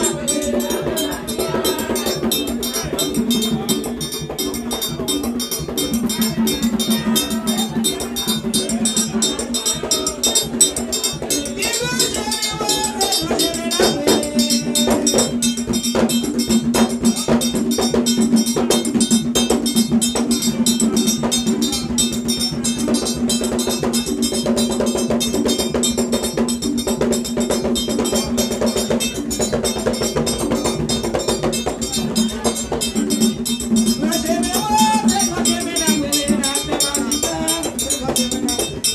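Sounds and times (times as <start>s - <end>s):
hand percussion: 0.0s - 38.9s
metal bell struck rhythmically: 0.0s - 38.9s.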